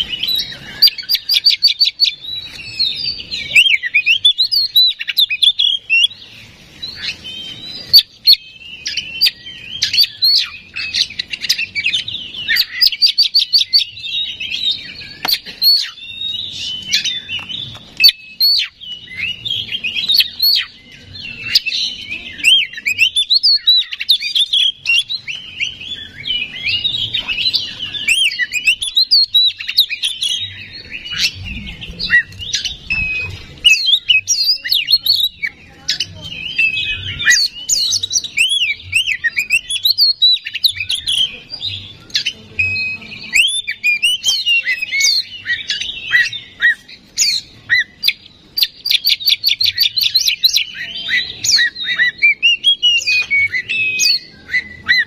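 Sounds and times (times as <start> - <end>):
songbird singing whistles and trills: 0.0 - 55.0.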